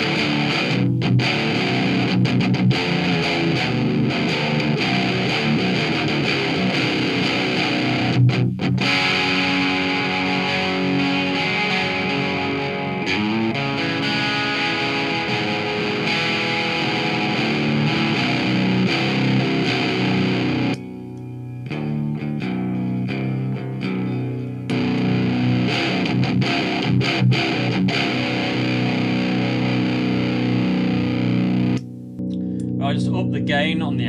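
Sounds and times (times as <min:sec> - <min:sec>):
slightly distorted electric guitar: 0:00.0 - 0:34.0.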